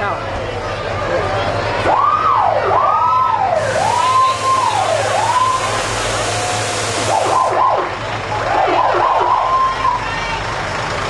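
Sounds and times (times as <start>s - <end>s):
fire engine siren wailing: 1.6s - 10.7s.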